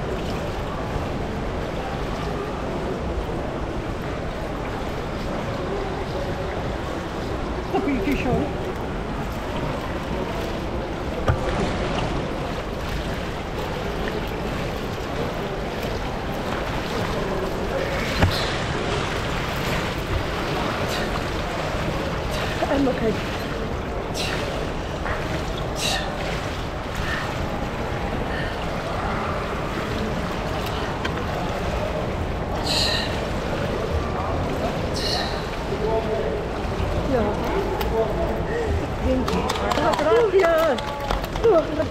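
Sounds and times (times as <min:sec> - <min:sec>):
rushing water in pool: 0:00.0 - 0:41.9
water lapping pool edge: 0:00.0 - 0:41.9.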